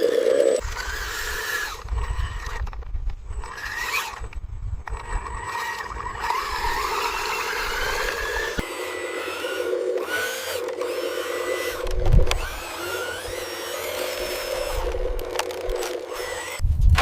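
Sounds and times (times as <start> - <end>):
small electric motors whining: 0.0 - 16.7.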